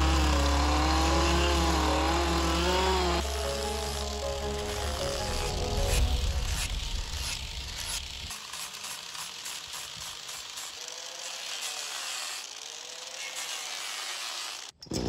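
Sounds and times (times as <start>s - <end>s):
angle grinder sanding wood: 0.0s - 15.0s.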